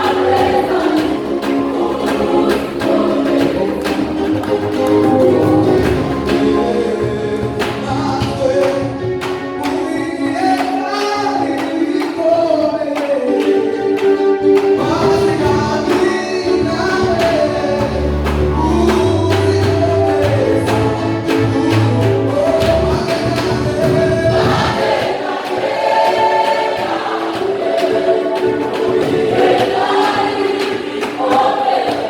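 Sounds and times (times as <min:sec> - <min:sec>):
choir singing gospel song: 0:00.0 - 0:32.0
percussion beat: 0:00.0 - 0:32.0.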